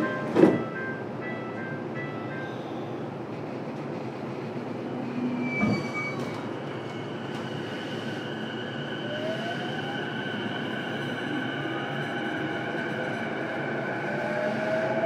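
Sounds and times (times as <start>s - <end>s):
train car hum and rumble: 0.0s - 15.0s.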